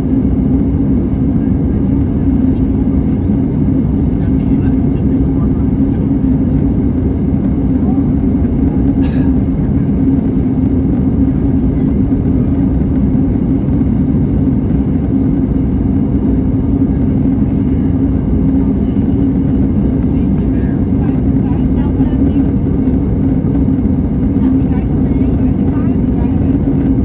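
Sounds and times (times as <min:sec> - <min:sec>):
airplane engine and airflow drone: 0:00.0 - 0:27.0
constant low hum: 0:00.0 - 0:27.0.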